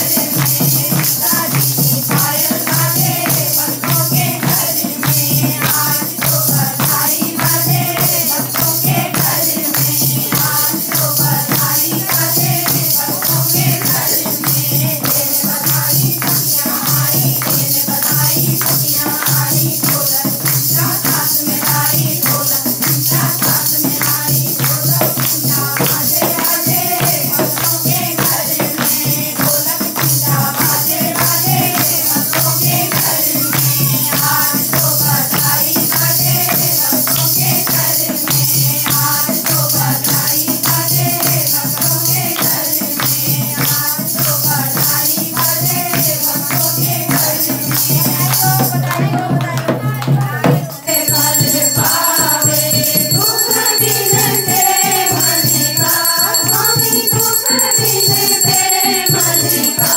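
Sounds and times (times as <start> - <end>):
hand drum beat: 0.0 - 59.9
women singing devotional song: 0.0 - 59.9
hand clapping: 2.2 - 59.9.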